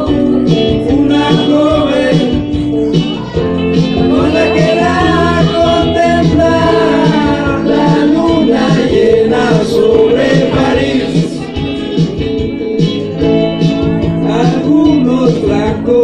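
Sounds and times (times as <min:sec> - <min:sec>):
man singing into microphone: 0:00.0 - 0:11.7, 0:14.1 - 0:16.0
pop-rock backing track: 0:00.0 - 0:16.0.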